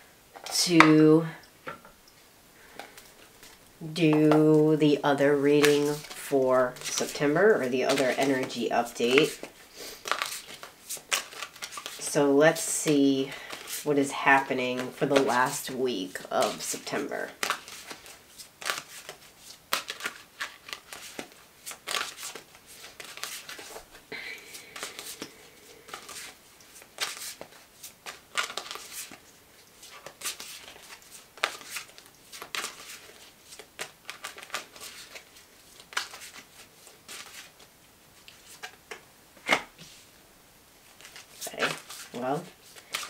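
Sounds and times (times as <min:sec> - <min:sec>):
cards being shuffled: 0:02.8 - 0:40.0, 0:40.9 - 0:43.0.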